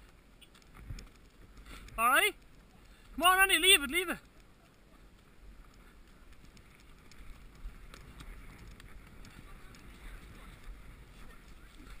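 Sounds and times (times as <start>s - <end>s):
hooves and tack clicking: 0.0s - 12.0s
wind rumble on microphone: 0.0s - 12.0s.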